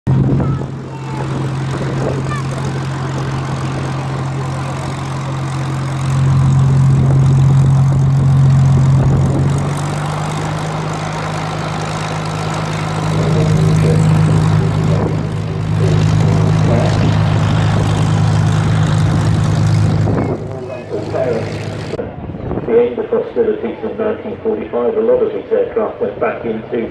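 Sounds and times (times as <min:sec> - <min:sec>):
propeller plane engine drone: 0:00.0 - 0:26.9.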